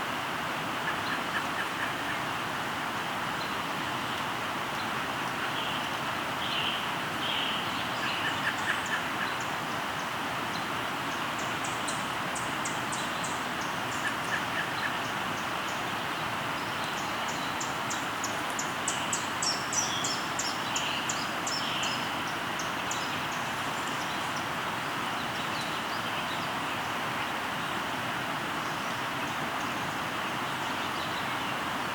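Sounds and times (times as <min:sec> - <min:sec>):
river flowing: 0:00.0 - 0:31.9
birds singing: 0:04.8 - 0:27.8, 0:28.6 - 0:31.7.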